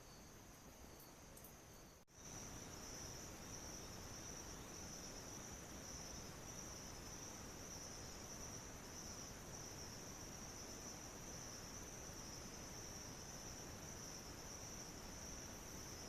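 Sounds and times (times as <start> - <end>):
faint hiss: 0.0 - 16.0
insects trilling: 0.0 - 16.0.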